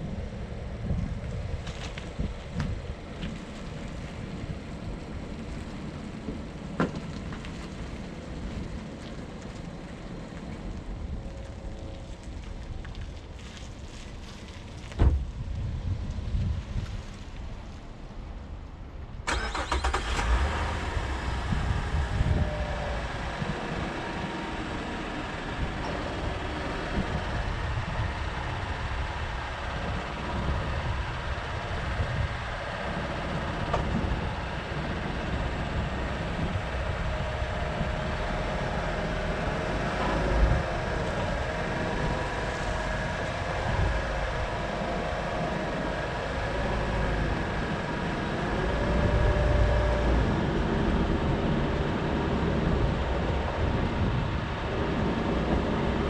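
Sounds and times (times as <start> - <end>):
low uneven vehicle rumble: 0.0 - 56.0.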